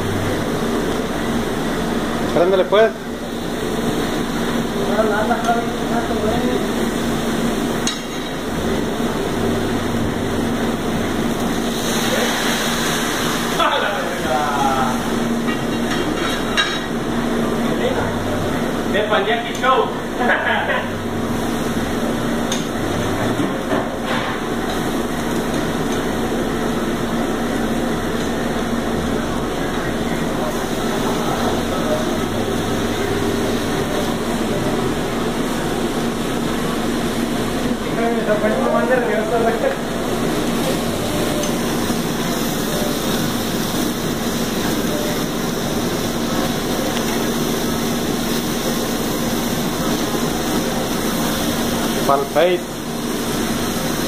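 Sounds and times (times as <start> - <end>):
gas flame roar: 0.0 - 54.0
steady low hum: 0.0 - 54.0
steak sizzling on a griddle: 0.1 - 54.0.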